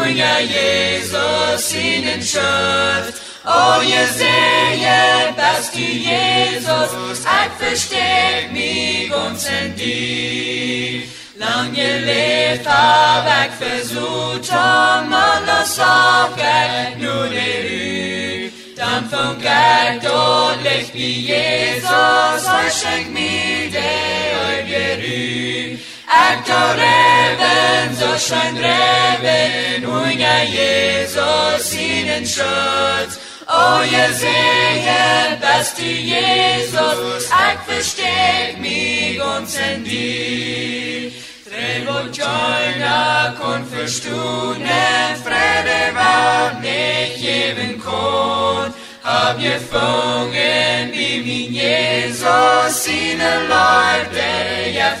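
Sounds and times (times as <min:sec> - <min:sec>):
voices singing a slow hymn: 0:00.0 - 0:55.0.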